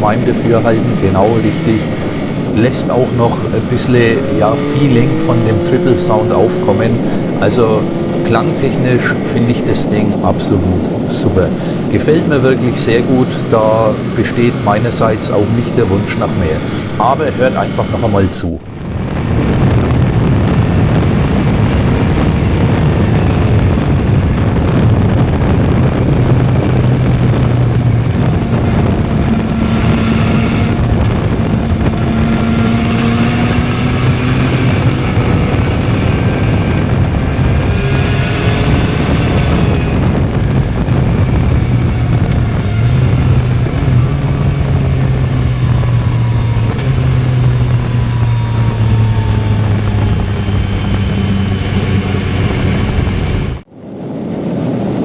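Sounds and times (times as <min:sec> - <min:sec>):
motorcycle engine revving: 0:00.0 - 0:10.0, 0:18.6 - 0:53.7.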